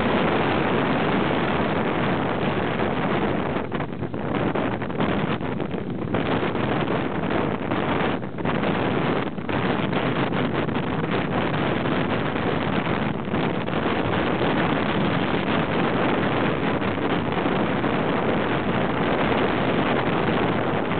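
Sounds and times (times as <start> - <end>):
wind on microphone: 0.0 - 20.9.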